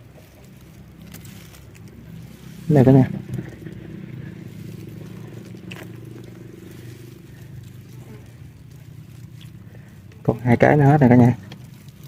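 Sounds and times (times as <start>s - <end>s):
small boat motor running: 0.0s - 12.0s.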